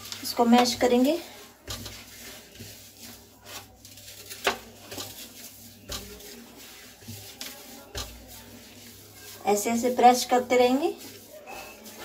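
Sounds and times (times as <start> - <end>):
hands kneading dough on steel: 0.0 - 12.0.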